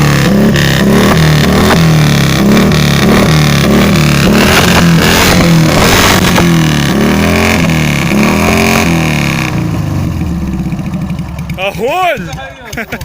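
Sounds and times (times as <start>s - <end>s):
engine revving in blips: 0.0s - 11.6s.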